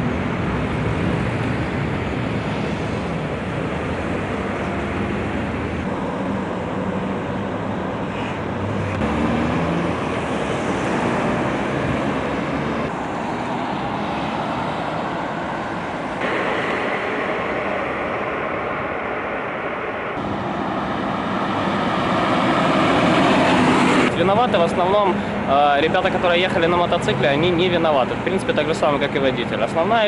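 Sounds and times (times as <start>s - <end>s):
cars passing on busy road: 0.0s - 30.0s.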